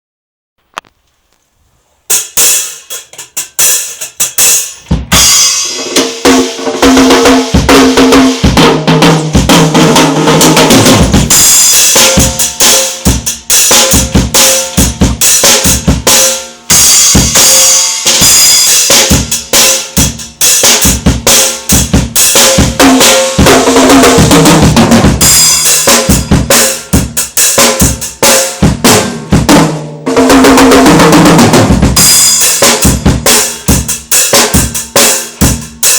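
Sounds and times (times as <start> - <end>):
drum kit playing fast groove: 2.1 - 35.9.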